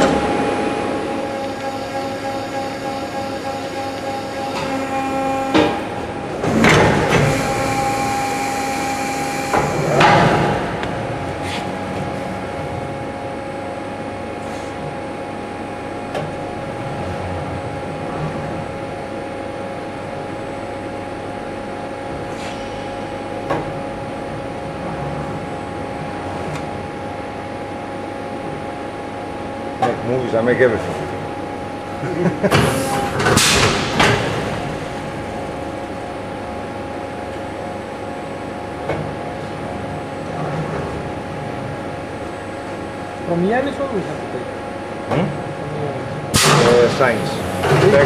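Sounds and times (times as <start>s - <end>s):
machine hum with high tones: 0.0s - 48.0s.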